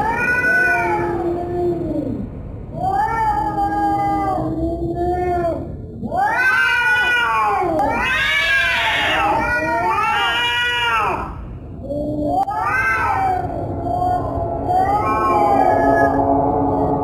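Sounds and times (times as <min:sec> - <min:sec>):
cat yowling: 0:00.0 - 0:02.0, 0:02.8 - 0:16.2.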